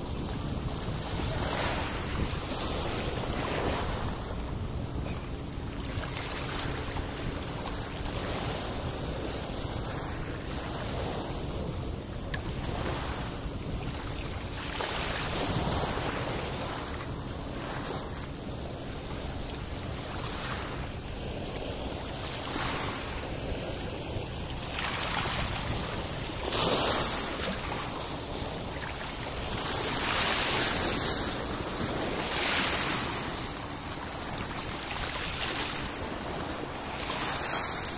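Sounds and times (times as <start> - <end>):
small waves on stony shore: 0.0 - 37.9
wind rumbling on microphone: 0.0 - 37.9.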